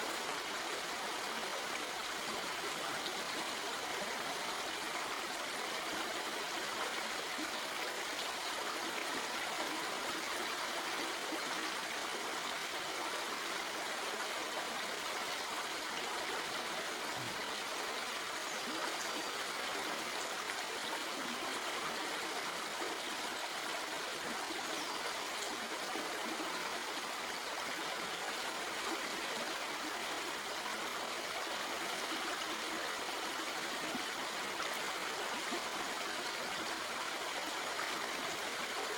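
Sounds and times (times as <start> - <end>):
stream water flowing over rocks: 0.0 - 38.9.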